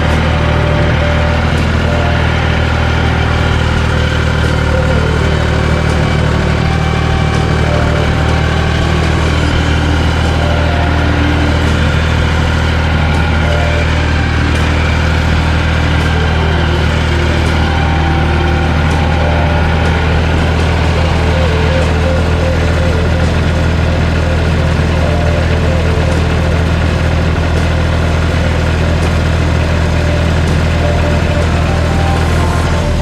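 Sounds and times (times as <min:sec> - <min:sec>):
bulldozer engine running: 0:00.0 - 0:33.0.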